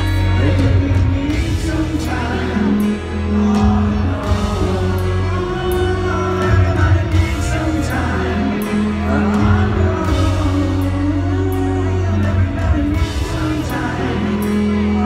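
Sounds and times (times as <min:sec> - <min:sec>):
live rock band playing: 0:00.0 - 0:15.0
man singing: 0:00.0 - 0:15.0.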